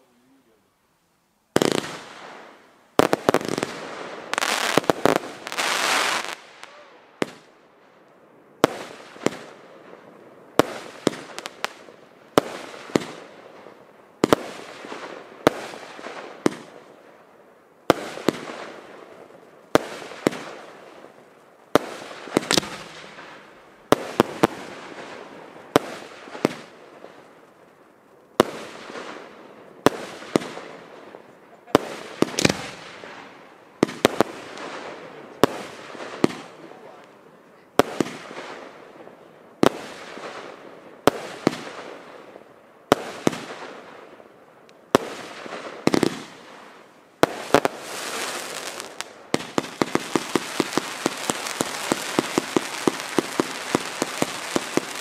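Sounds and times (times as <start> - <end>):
fireworks bangs: 1.5 - 7.6, 8.6 - 17.2, 17.9 - 27.7, 28.4 - 44.2, 44.9 - 55.0.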